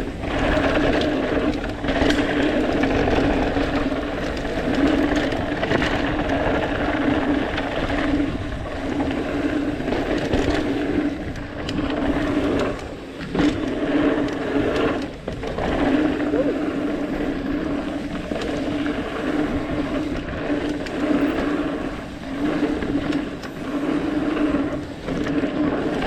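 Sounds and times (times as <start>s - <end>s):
bike knocks and rattles: 0.0s - 26.0s.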